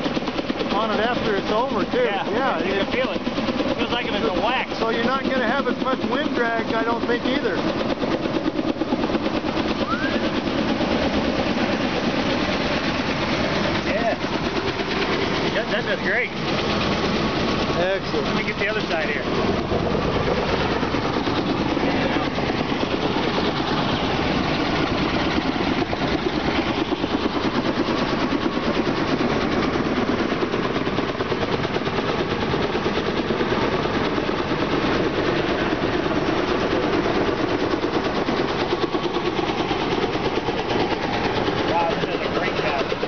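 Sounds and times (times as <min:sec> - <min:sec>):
engine running: 0:00.0 - 0:43.0.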